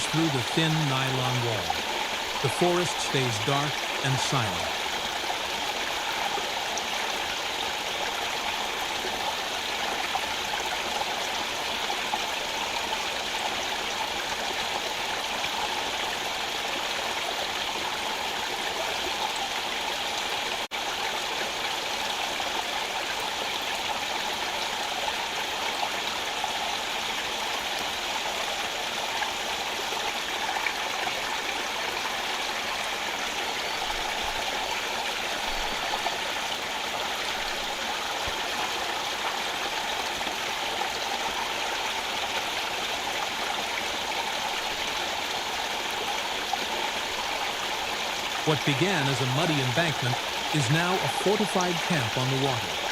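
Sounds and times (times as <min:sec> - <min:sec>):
stream rushing over stones: 0:00.0 - 0:52.9.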